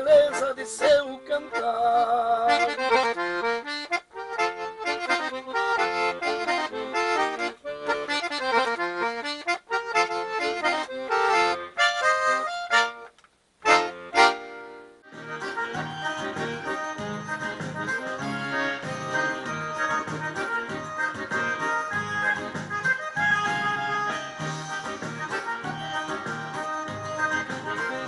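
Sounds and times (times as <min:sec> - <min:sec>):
accordion playing melody: 0:00.0 - 0:28.0.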